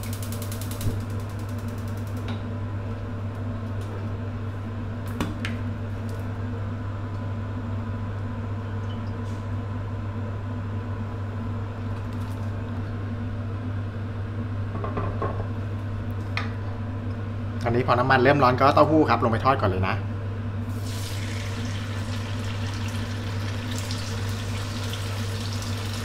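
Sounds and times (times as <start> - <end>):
cooker electrical hum and fan: 0.0 - 26.0.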